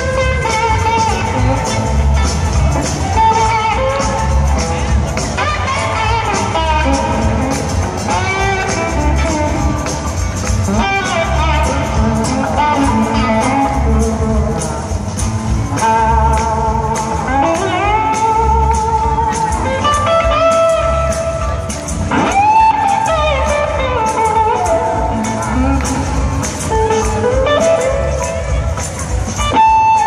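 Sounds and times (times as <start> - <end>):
blues rock band playing: 0.0 - 30.0
electric guitar lead line: 0.0 - 30.0.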